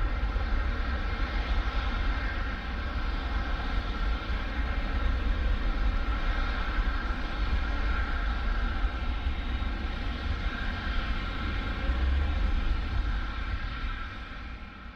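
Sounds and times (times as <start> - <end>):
jet engines rumbling with whine: 0.0 - 14.9.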